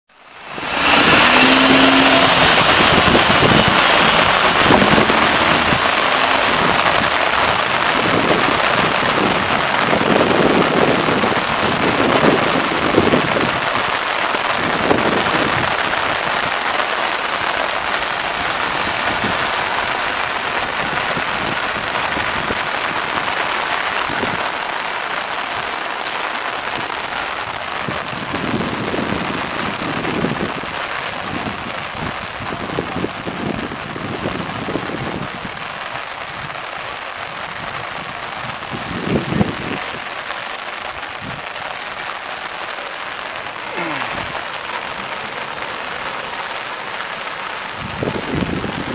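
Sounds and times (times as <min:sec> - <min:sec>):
heavy rain falling: 0:00.1 - 0:48.9.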